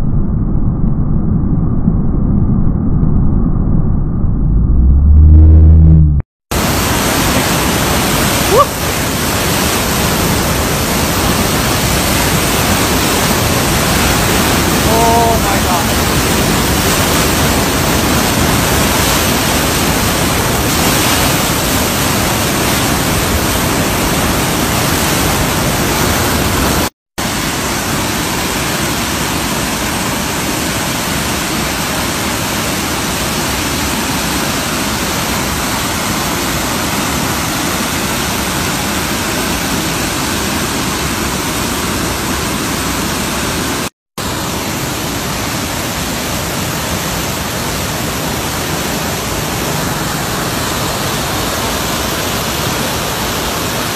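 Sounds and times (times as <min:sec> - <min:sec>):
fast river rushing: 0:06.5 - 0:53.9.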